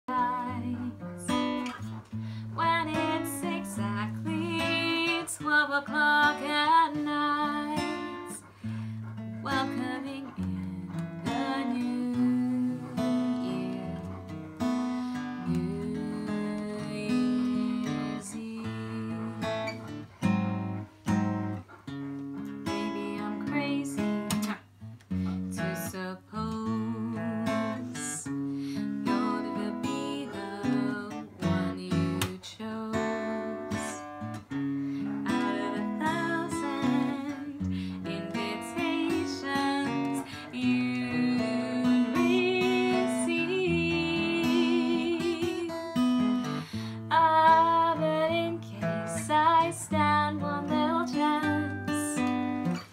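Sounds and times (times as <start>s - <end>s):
woman singing: 0.0s - 8.5s, 9.4s - 14.2s, 15.1s - 19.9s, 22.6s - 24.4s, 25.5s - 34.3s, 35.1s - 52.7s.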